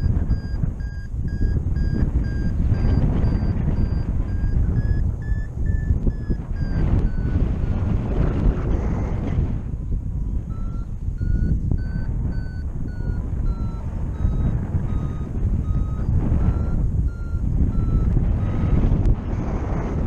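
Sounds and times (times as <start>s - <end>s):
variometer beeping: 0.0s - 8.2s, 10.2s - 19.2s
wind on microphone: 0.0s - 20.0s.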